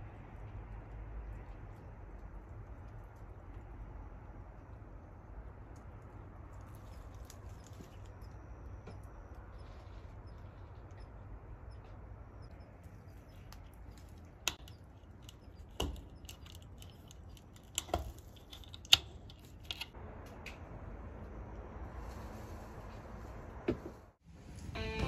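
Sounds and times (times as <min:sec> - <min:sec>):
low steady background noise: 0:00.0 - 0:25.0.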